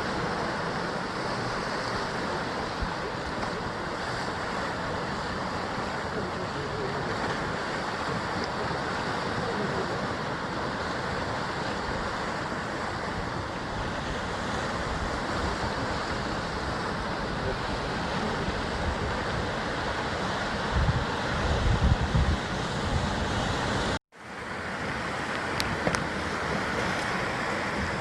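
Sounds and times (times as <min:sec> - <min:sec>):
sea surf against rocks: 0:00.0 - 0:28.0.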